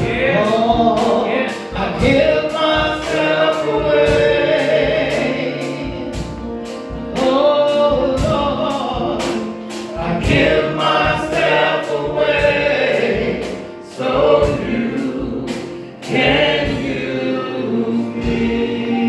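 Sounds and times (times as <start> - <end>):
group singing gospel song: 0.0 - 19.0
piano accompaniment: 0.0 - 19.0
sharp regular beat: 0.0 - 19.0.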